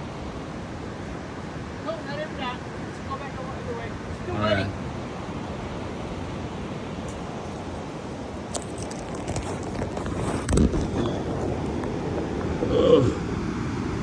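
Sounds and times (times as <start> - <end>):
distant surf: 0.0 - 9.2, 10.9 - 14.0
wind on microphone: 1.7 - 14.0.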